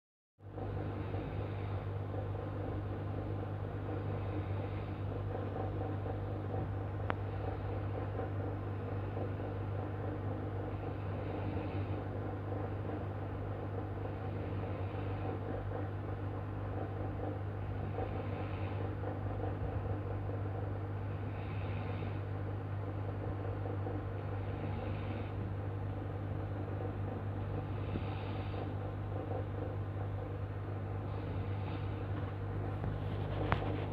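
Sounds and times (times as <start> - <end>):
steady low hum: 0.4 - 33.9.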